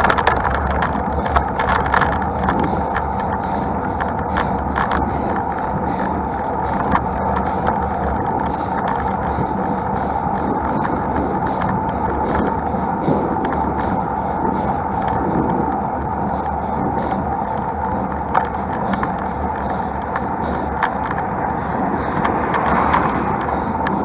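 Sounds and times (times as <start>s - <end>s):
road bike riding noise: 0.0s - 24.0s.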